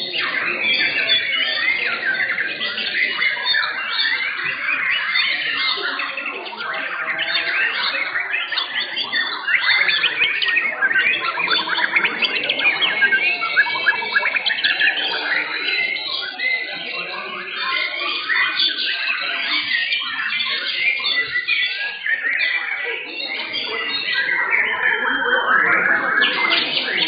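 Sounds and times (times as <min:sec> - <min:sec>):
birds singing rapid whistles: 0:00.0 - 0:27.0.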